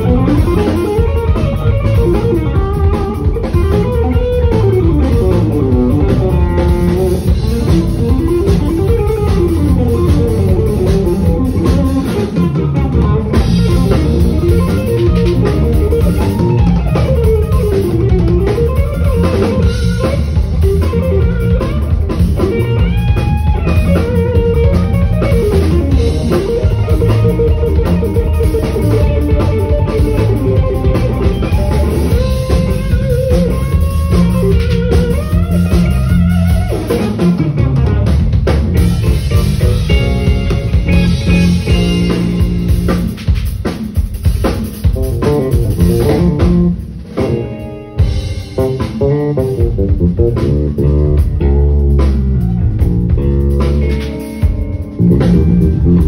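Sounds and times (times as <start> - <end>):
electric guitar solo: 0.0 - 43.5, 44.7 - 56.0
drum kit: 0.0 - 56.0
electric bass: 0.0 - 56.0.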